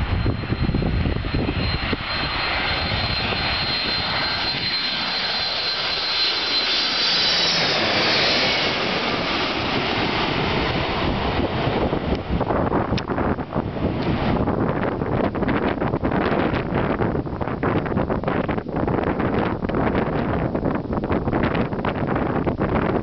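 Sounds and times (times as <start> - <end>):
jet engine roar with whine: 0.0 - 23.0
wind buffeting microphone: 0.0 - 23.0.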